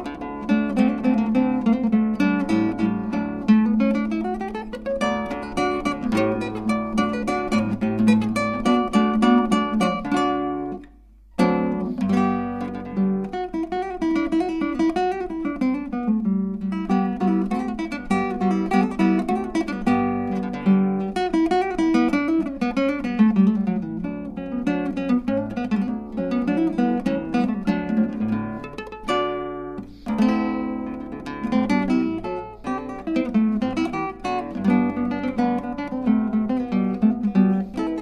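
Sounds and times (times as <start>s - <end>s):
acoustic guitar: 0.0s - 38.0s.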